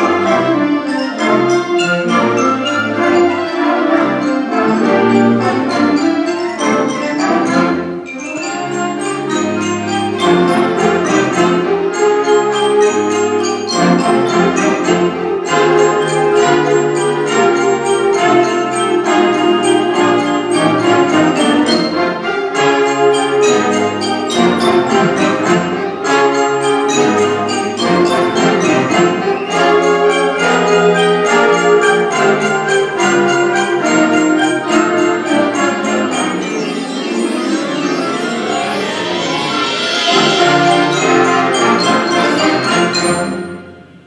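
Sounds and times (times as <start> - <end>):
band playing woodwinds and brass: 0.0 - 44.0.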